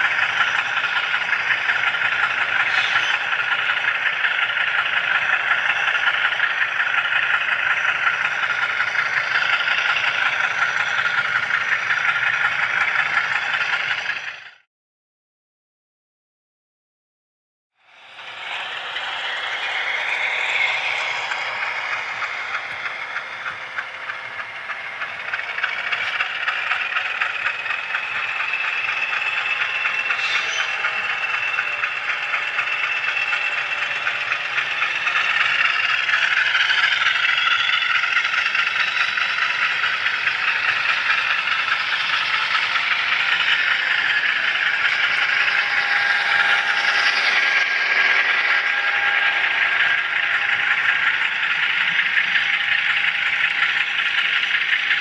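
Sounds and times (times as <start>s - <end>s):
model train wheels clicking: 0.0s - 14.6s, 17.9s - 55.0s.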